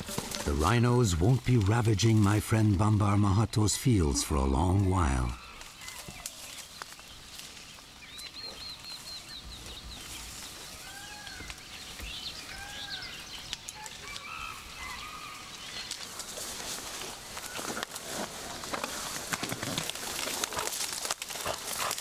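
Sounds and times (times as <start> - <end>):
birds chirping and calling: 0.0 - 17.8.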